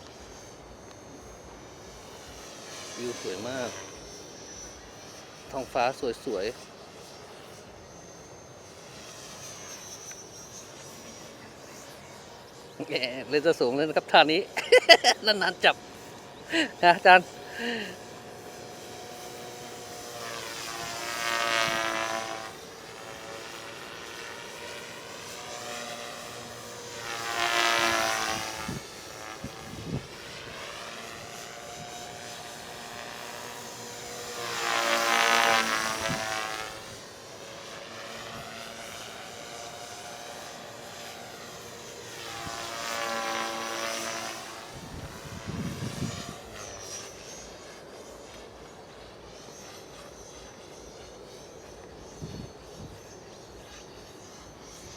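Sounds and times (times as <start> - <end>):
model airplane engine passing: 0.0 - 54.9.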